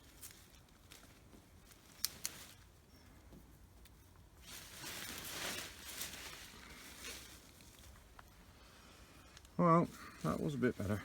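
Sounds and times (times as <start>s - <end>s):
soil and vines rustling: 0.0s - 11.0s.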